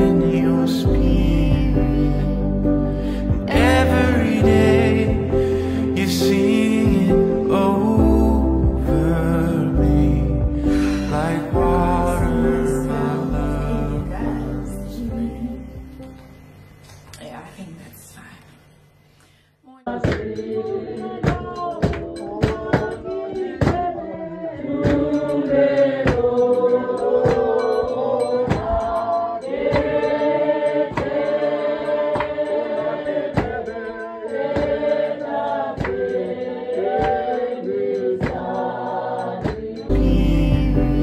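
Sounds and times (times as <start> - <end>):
group singing over a beat: 0.0 - 16.3, 19.7 - 41.0.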